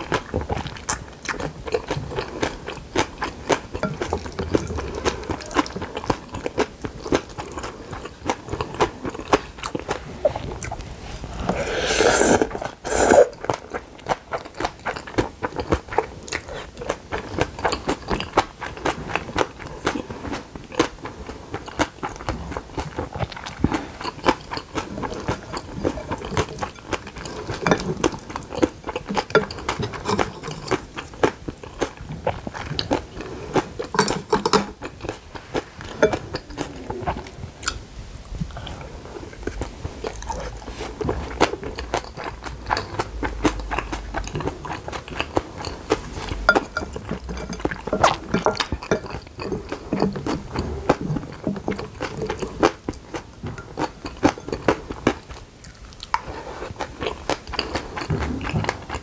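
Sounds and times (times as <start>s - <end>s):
close chewing with mouth clicks: 0.0s - 59.0s.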